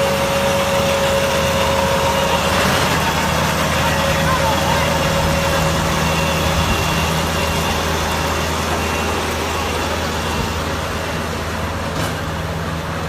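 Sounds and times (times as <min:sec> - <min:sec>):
baler mechanical noise: 0:00.0 - 0:13.0
tractor engine hum: 0:00.0 - 0:13.0.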